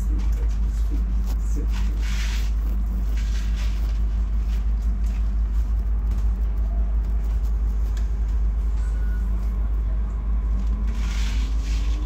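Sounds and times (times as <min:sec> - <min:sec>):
train rumble and hum: 0:00.0 - 0:12.0.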